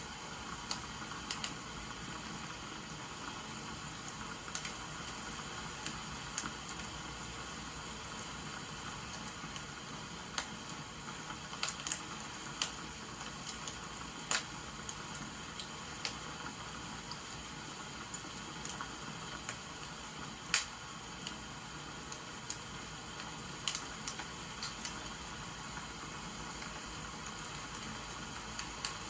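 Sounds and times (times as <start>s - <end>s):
rain falling: 0.0s - 29.0s
wood fire crackling: 0.0s - 29.0s.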